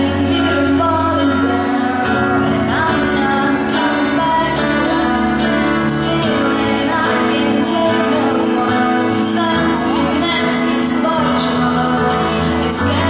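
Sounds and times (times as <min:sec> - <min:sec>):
guitar: 0:00.0 - 0:13.0
piano: 0:00.0 - 0:13.0
woman singing a slow ballad: 0:00.0 - 0:13.0.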